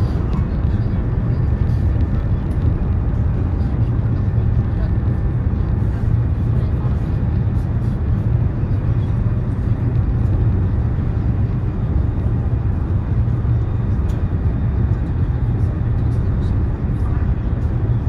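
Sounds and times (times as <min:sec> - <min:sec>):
train rumbling inside carriage: 0:00.0 - 0:18.0.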